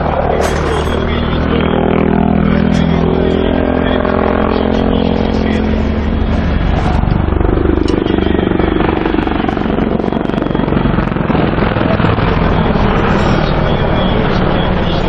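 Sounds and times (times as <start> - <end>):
helicopter engines humming: 0.0 - 15.0
helicopter rotor chopping: 0.0 - 15.0.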